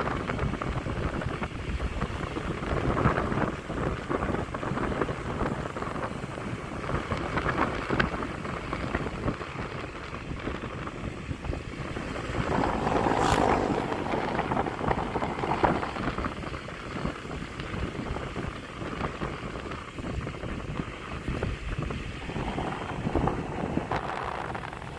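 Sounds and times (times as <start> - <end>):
road noise from moving vehicle: 0.0 - 24.9
wind buffeting microphone: 0.0 - 24.9.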